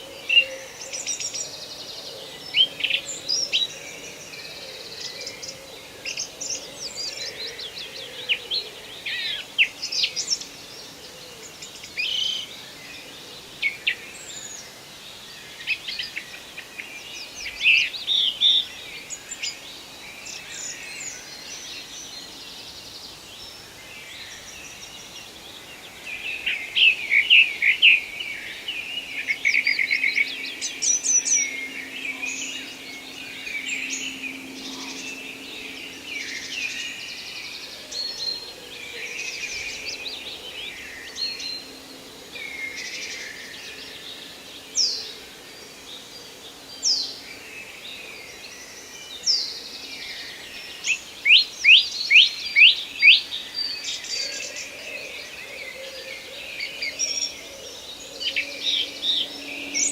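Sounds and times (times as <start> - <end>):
birds chirping and trilling: 0.0 - 59.9
steady background hiss: 0.0 - 59.9.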